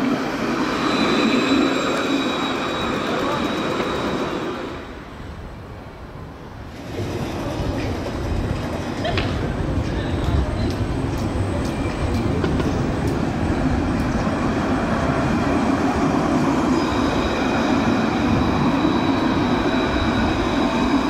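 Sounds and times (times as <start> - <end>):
tram passing on rails: 0.0 - 21.0.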